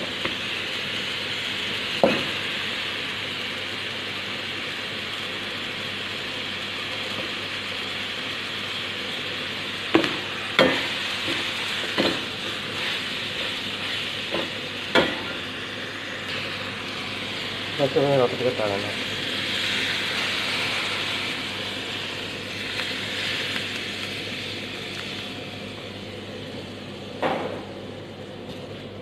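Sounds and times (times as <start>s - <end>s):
food sizzling in a wok: 0.0s - 27.9s.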